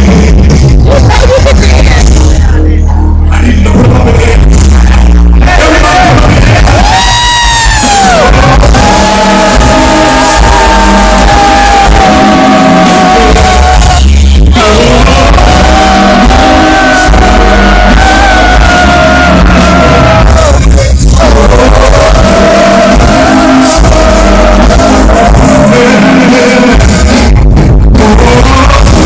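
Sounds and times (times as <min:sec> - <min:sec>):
band playing: 0:00.0 - 0:29.0
man singing long notes: 0:00.0 - 0:29.0.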